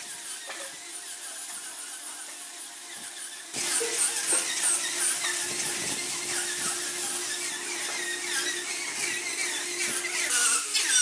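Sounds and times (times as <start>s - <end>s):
angle grinder sanding wood: 0.0s - 11.0s.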